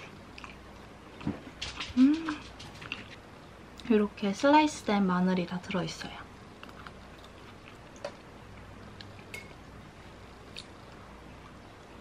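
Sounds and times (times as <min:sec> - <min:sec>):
faint chewing: 0:00.0 - 0:04.0, 0:05.6 - 0:12.0.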